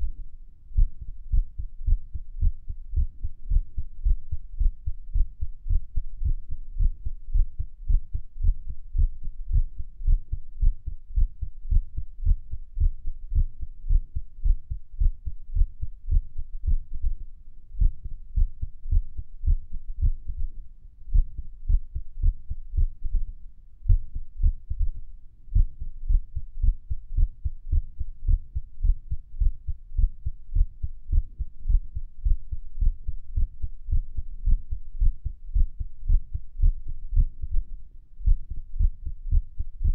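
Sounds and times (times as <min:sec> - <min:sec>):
heartbeat lub-dub: 0:00.7 - 0:39.9.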